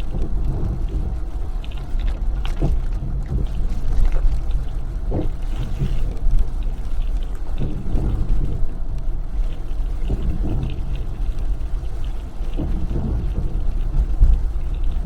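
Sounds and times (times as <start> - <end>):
engine and tyre rumble: 0.0 - 15.0
water splashes and ticks: 0.0 - 15.0.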